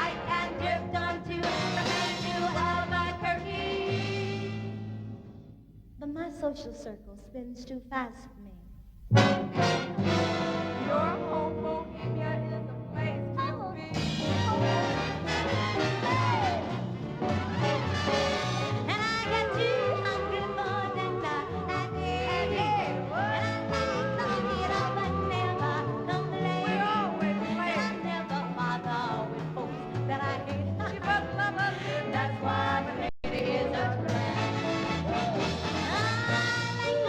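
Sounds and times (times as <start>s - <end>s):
live swing band music: 0.0s - 5.5s, 9.0s - 37.0s.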